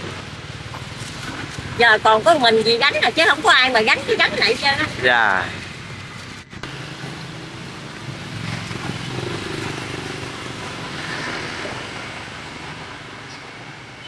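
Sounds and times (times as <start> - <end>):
motor engines running: 0.0 - 13.8
road traffic noise: 0.0 - 14.0.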